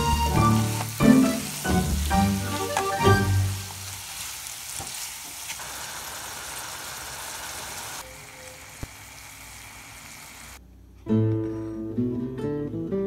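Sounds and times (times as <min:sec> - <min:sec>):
apples sizzling in a pan: 0:00.0 - 0:10.6.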